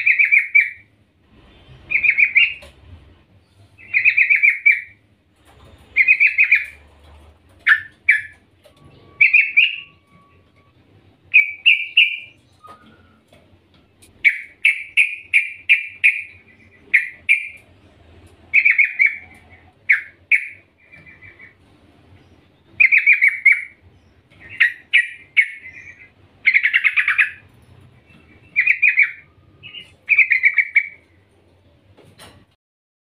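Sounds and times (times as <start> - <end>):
bird chirping and trilling: 0.0 - 13.4, 14.0 - 31.2.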